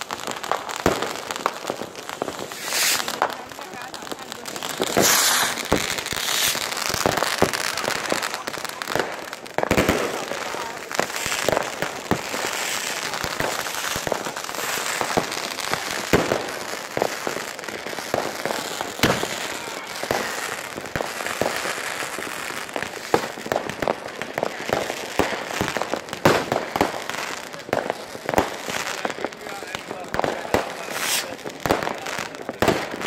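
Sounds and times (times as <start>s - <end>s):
firecrackers crackling: 0.0s - 33.0s
sharp firework bangs: 0.0s - 33.0s.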